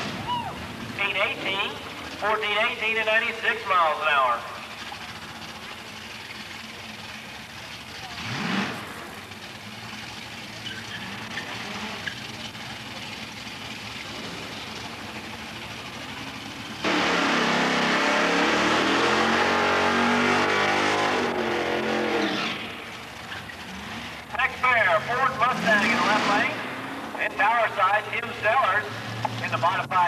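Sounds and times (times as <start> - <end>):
racing car engine high-revving: 3.6 - 30.0.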